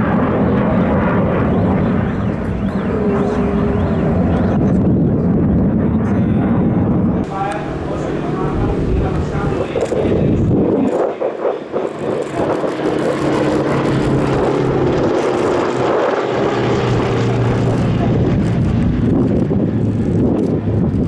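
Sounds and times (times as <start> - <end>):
aircraft engine drone: 0.0 - 6.5, 7.2 - 21.0.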